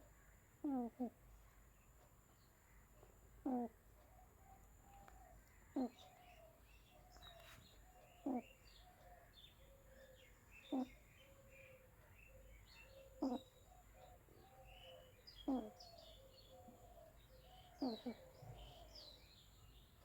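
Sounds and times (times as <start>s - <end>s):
birds chirping and cooing: 0.6s - 1.2s, 3.4s - 20.0s.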